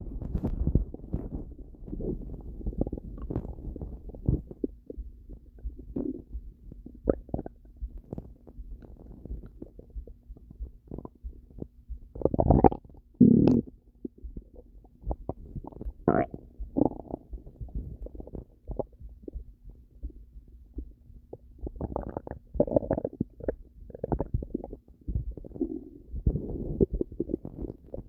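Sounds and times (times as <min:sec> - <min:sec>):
stomach rumbling and gurgling: 0:00.0 - 0:28.0.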